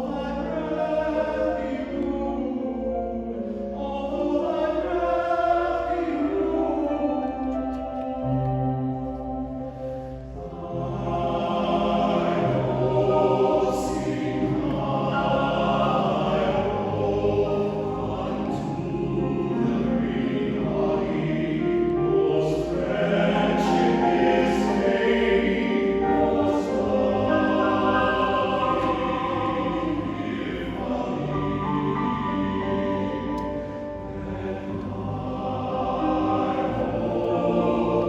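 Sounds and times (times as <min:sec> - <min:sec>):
choir singing: 0:00.0 - 0:38.0.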